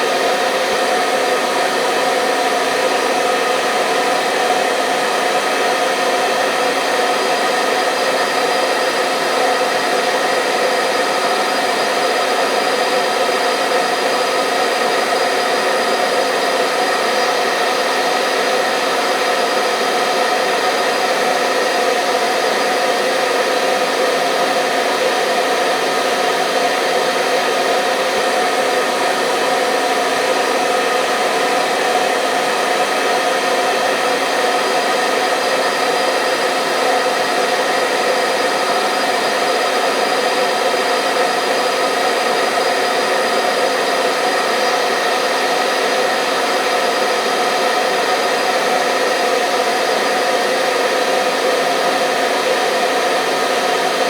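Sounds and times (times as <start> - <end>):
hair dryer whirring: 0.0 - 54.0.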